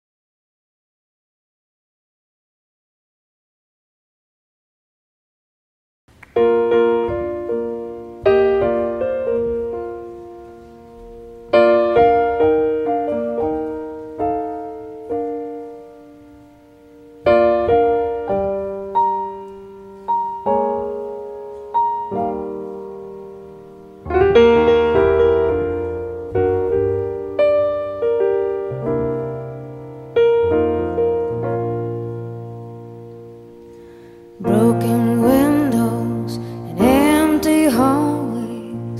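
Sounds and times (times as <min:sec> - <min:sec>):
slow piano chords: 0:06.1 - 0:38.9
deep piano bass notes: 0:06.2 - 0:38.9.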